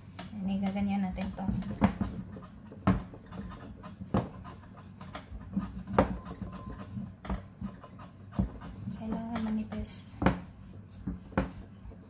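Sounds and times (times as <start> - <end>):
rolling pin rubbing over bread: 0.0 - 12.0
rolling pin knocking on board: 0.2 - 12.0.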